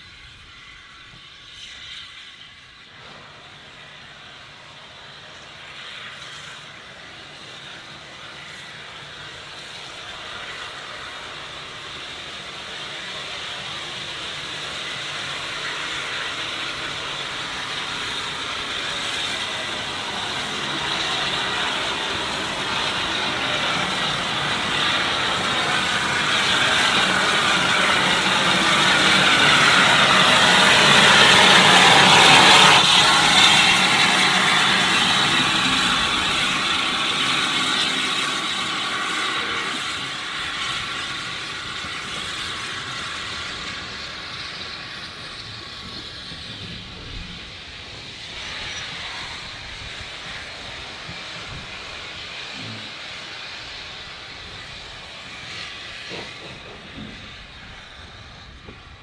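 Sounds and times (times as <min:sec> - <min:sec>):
train running: 0:00.0 - 0:59.0.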